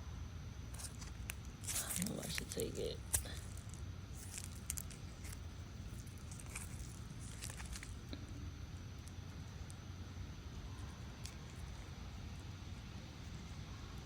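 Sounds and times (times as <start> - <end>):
low steady rumble: 0.0 - 14.0
faint crackling and rustling: 0.7 - 14.0.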